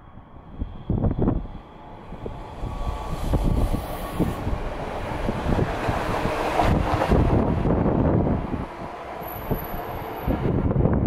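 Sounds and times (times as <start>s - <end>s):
electric train passing: 0.0s - 11.0s
wind gust on microphone: 0.0s - 11.0s.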